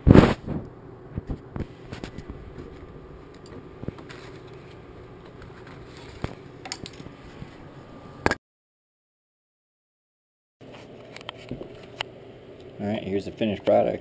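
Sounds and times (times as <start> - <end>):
faint room hum: 0.0 - 8.4, 10.6 - 14.0.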